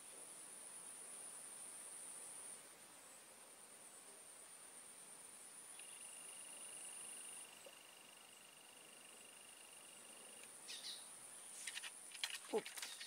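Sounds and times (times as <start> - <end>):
lower insect trill: 0.1 - 13.0
insects trilling: 0.2 - 13.0.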